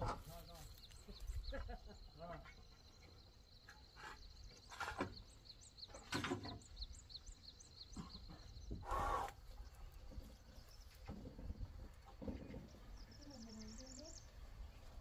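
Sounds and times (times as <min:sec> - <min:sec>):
small bird chirping: 0:00.2 - 0:15.0.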